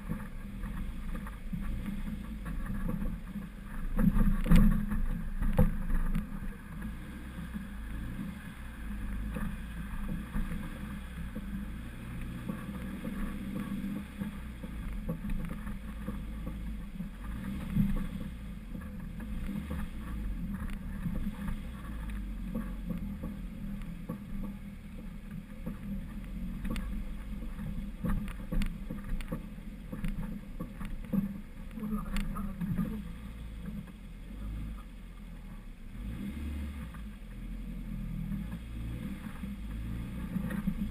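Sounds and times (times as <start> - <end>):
vehicle rumbling over rough ground: 0.0 - 40.9.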